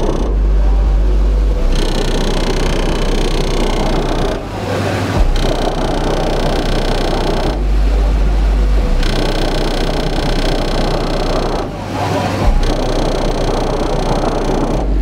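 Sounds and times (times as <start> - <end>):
dubstep through subwoofers: 0.0 - 15.0
very deep bass note: 0.0 - 15.0.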